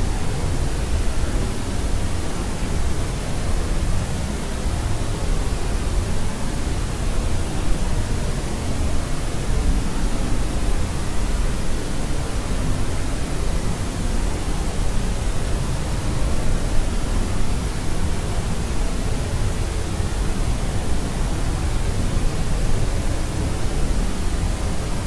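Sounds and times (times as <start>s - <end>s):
white noise hiss: 0.0s - 25.0s.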